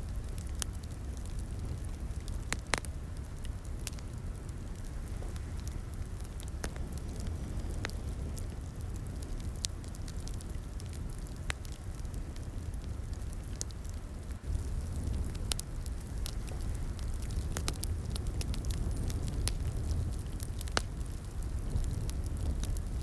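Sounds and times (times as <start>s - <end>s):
low rumble of flames: 0.0s - 23.0s
burning wood pops and snaps: 0.1s - 23.0s.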